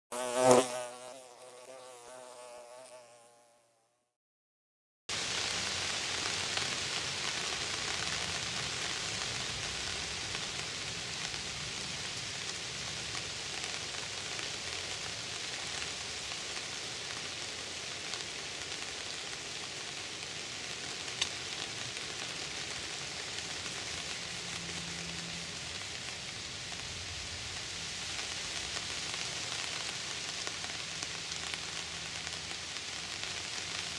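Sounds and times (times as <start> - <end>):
rain on foliage: 5.1 - 33.9.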